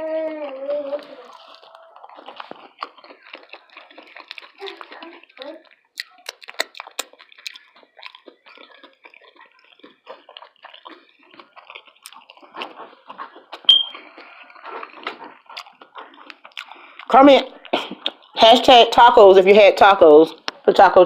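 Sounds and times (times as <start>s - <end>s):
close-miked chewing: 0.0s - 21.0s.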